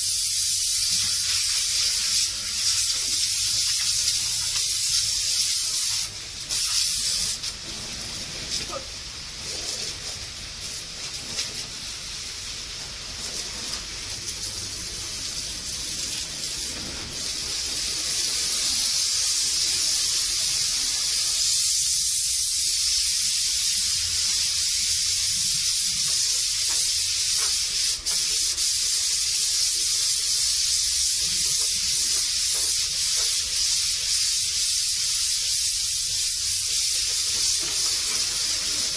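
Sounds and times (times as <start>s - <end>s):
water jet spraying: 0.7s - 38.9s.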